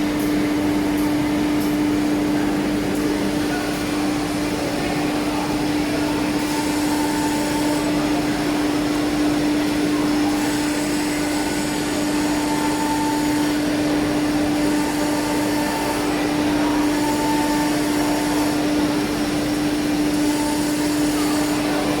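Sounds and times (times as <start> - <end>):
woodworking machine motors humming: 0.0 - 22.0.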